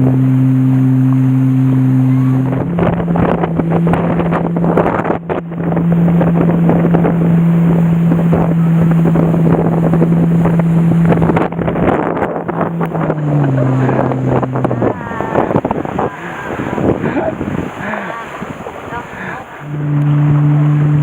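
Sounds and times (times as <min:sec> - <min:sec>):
motorboat engine running: 0:00.0 - 0:21.0
wind buffeting microphone: 0:00.0 - 0:21.0.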